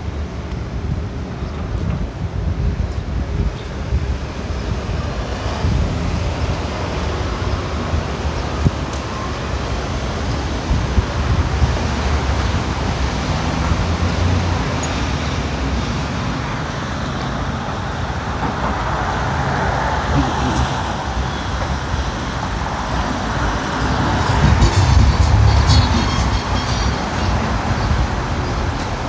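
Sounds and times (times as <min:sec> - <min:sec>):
cars passing: 0:03.2 - 0:29.0.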